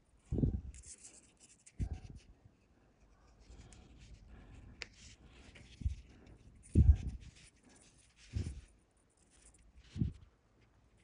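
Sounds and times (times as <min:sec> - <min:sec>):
fishing line rubbing and scratching: 0:00.2 - 0:02.4, 0:03.0 - 0:10.4.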